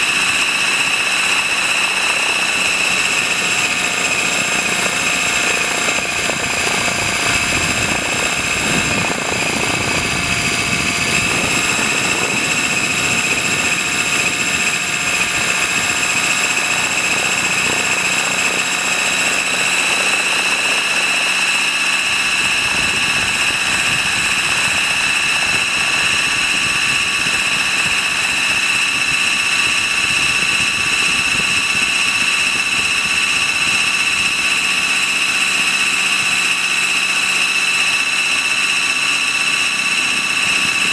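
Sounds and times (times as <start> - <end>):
low rumble and buffeting: 0.0 - 34.4
model helicopter whine: 0.0 - 40.9
rotors rushing: 0.0 - 40.9.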